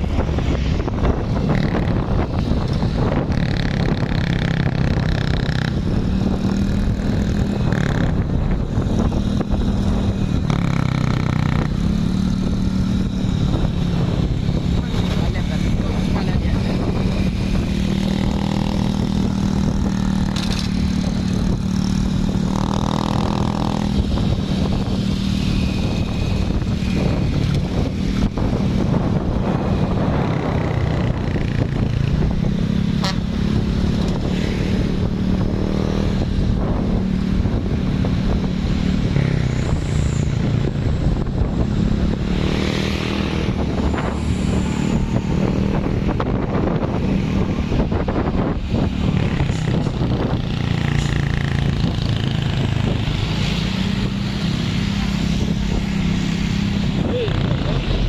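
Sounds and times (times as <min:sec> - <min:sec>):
road traffic: 0:00.0 - 0:58.0
truck engines droning: 0:00.0 - 0:58.0.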